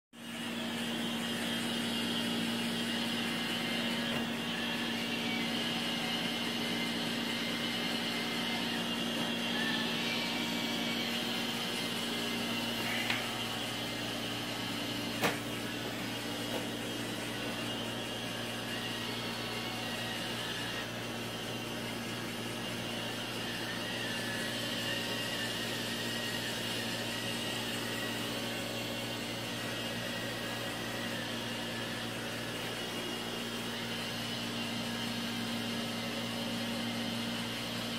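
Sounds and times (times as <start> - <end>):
mechanical hum: 0.2 - 37.9.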